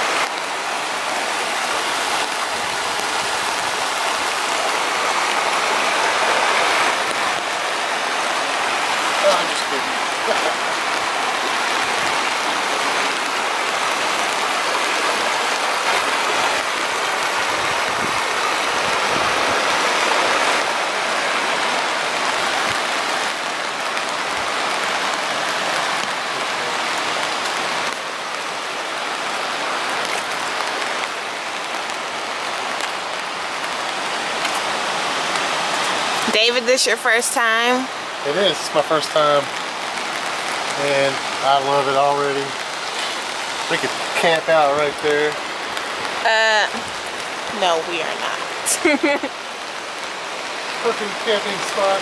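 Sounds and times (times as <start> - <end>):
rain: 0.0 - 52.0
running water: 0.0 - 52.0.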